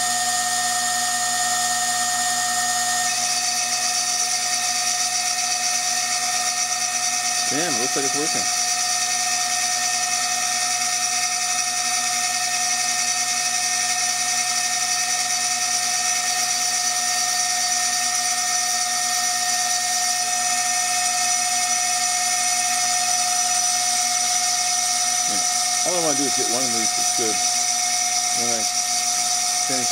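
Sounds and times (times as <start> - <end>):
milling machine high-pitched whine: 0.0 - 29.9.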